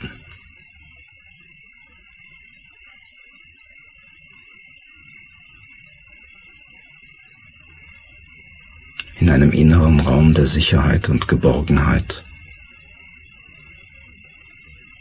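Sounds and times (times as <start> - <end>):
high insect-like chirring: 0.0 - 15.0.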